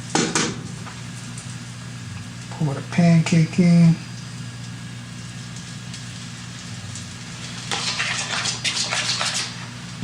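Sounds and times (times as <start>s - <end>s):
batter sizzling in a frying pan: 0.0s - 10.0s.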